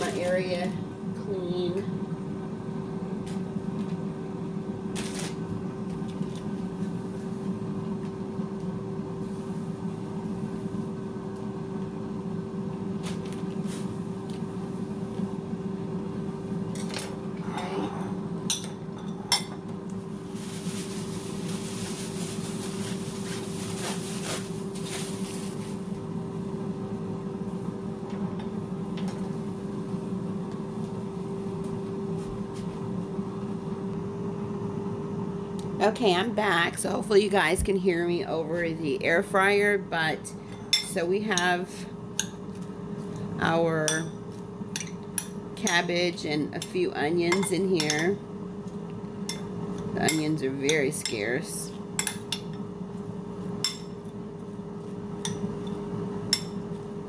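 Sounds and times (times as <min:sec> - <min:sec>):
air fryer humming: 0:00.0 - 0:57.0.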